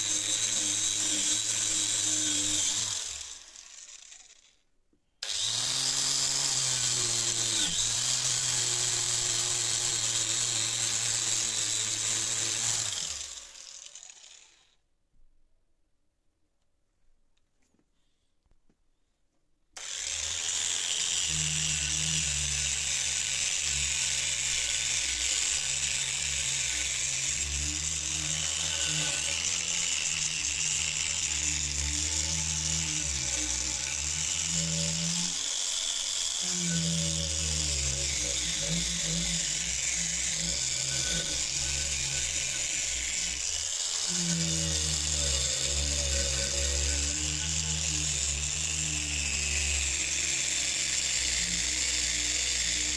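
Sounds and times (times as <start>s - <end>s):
wire brush grinder scrubbing metal: 0.0s - 4.4s, 5.2s - 14.6s, 19.8s - 52.9s.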